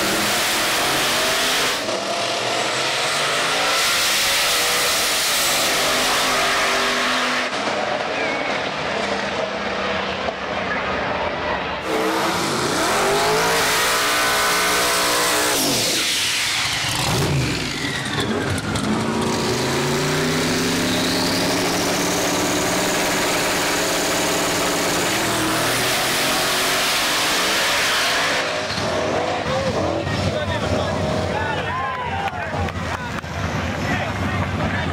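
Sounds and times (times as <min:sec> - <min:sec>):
drag racing engines at full throttle: 0:00.0 - 0:34.9.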